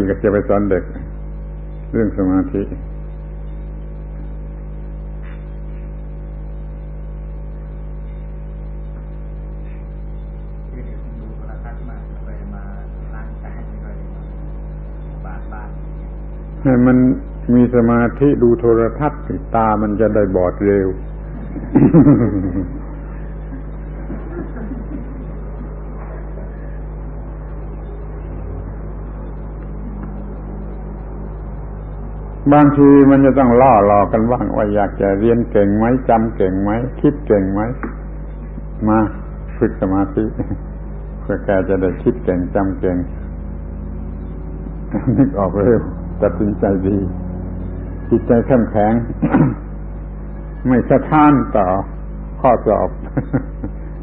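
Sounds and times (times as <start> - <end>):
low electrical hum: 0.0 - 54.0
tape hiss: 0.0 - 54.0.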